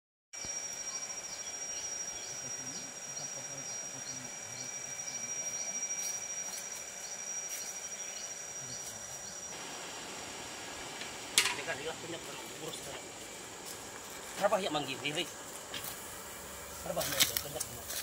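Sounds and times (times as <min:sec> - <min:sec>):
insects high-pitched whine: 0:00.4 - 0:18.0.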